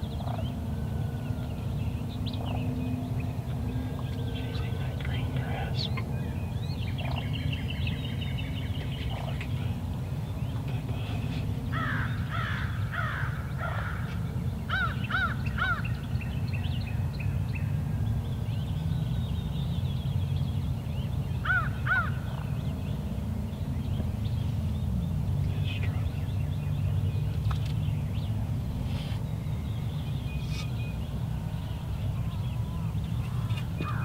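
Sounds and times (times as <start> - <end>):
bird calls: 0.0 - 17.7, 18.6 - 34.0
high songbird notes: 0.0 - 34.0
steady low rumble: 0.0 - 34.0.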